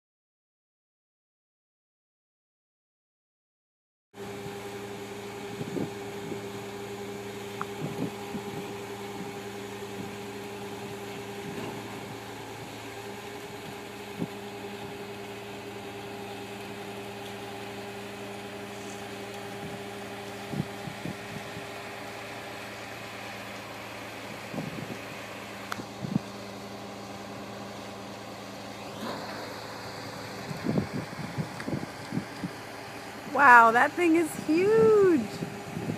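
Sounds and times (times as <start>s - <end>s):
concrete pump diesel engine running: 4.2s - 35.9s.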